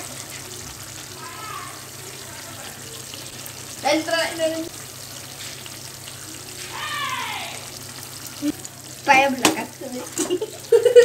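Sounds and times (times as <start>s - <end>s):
gravy simmering and sizzling: 0.0s - 11.0s.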